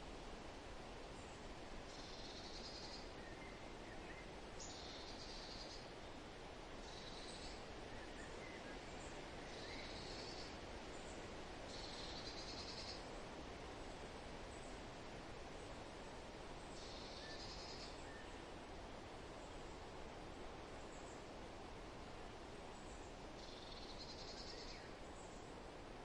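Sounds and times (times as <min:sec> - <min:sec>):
wind-like hiss: 0:00.0 - 0:26.0.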